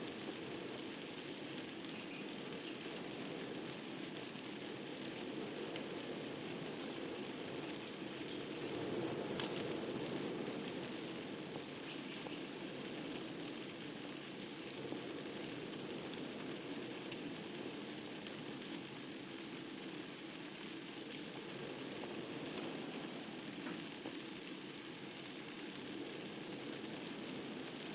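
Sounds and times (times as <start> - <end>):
burning logs crackling and popping: 0.0 - 27.9
low rush of flames: 0.0 - 27.9.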